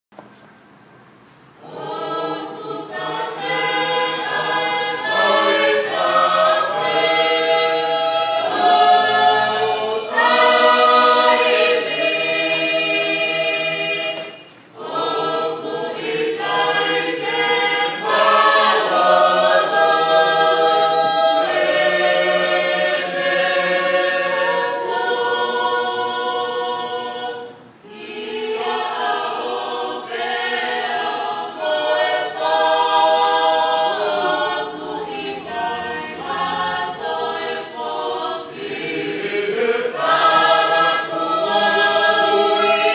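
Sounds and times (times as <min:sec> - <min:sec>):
choir singing a hymn: 0:01.5 - 0:42.9.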